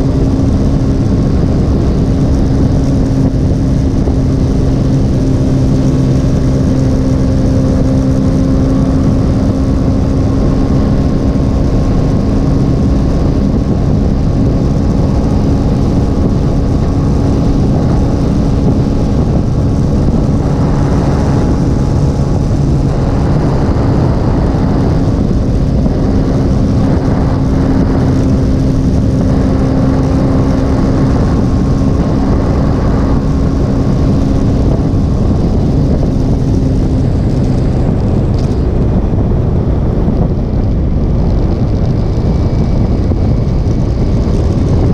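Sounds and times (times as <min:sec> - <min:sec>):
motorcycle engine running: 0:00.0 - 0:44.9
wind rush on microphone: 0:00.0 - 0:44.9.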